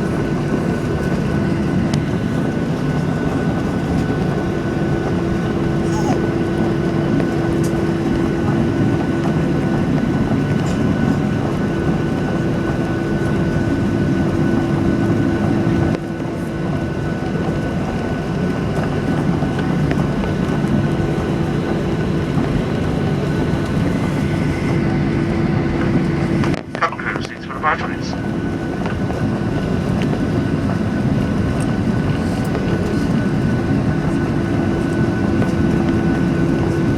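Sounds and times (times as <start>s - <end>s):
airplane cabin engine hum: 0.0s - 36.9s.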